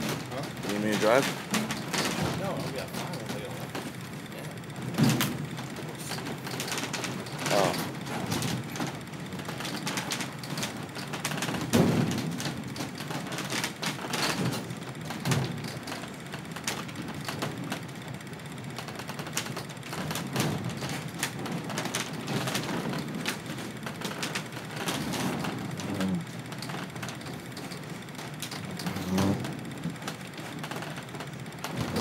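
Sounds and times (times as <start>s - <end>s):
boat engine running: 0.0s - 32.0s
knocks and rattles: 0.0s - 32.0s.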